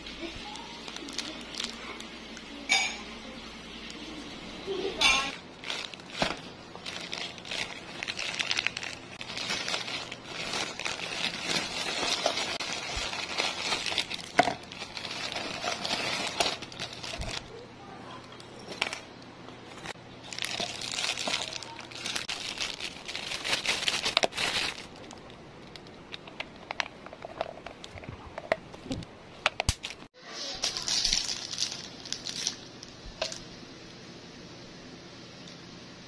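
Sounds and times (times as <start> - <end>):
plastic packaging crinkling: 0.2 - 2.7, 4.7 - 17.6, 18.4 - 33.4.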